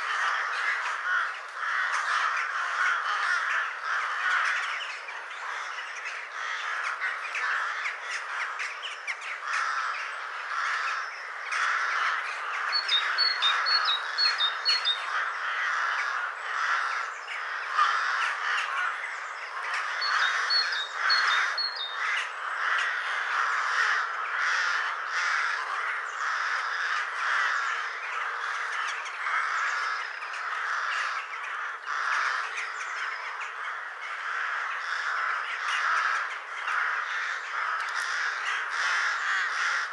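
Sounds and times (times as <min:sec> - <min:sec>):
ravens cawing: 0:00.0 - 0:39.9.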